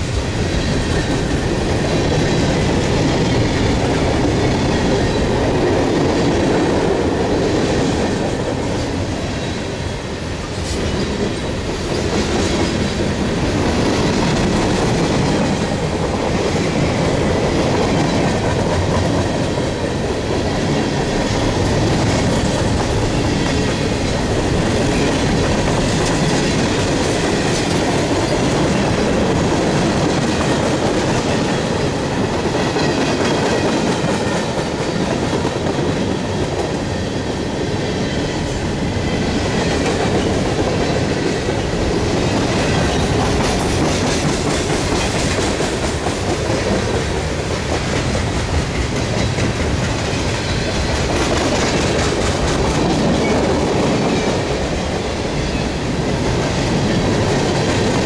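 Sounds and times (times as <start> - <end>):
freight train wheels clacking: 0.0 - 58.0.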